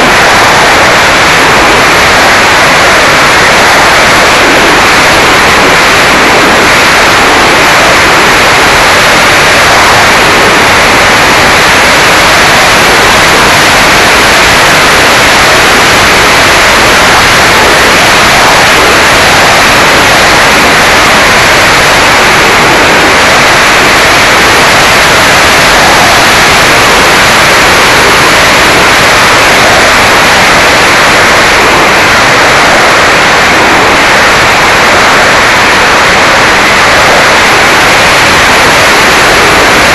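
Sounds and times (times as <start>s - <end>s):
airflow and motor roar: 0.0s - 39.9s.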